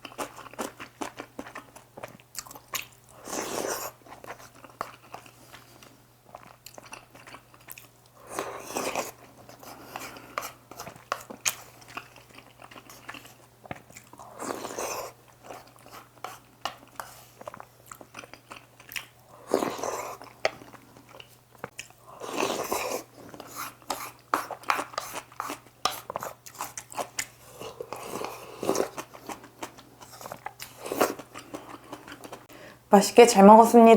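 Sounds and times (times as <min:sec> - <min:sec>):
wet chewing with mouth clicks: 0:00.0 - 0:32.5
faint steady hum: 0:00.0 - 0:33.9.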